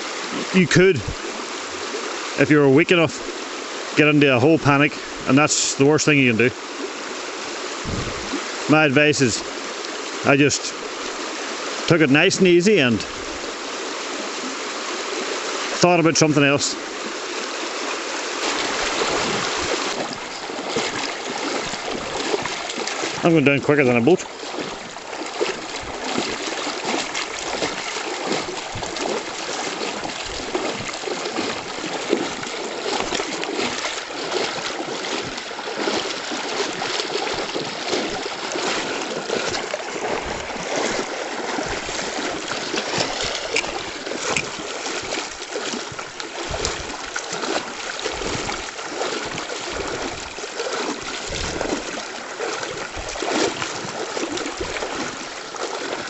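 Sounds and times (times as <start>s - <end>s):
river water rushing over stones: 0.0s - 56.0s
water splashing: 0.0s - 56.0s.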